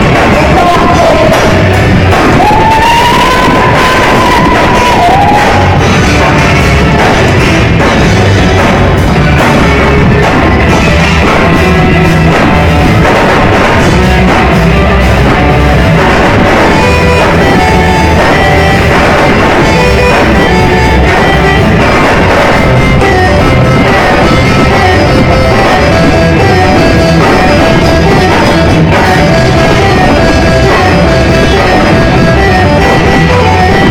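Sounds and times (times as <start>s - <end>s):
drum kit beat: 0.0s - 33.9s
electric guitars: 0.0s - 33.9s.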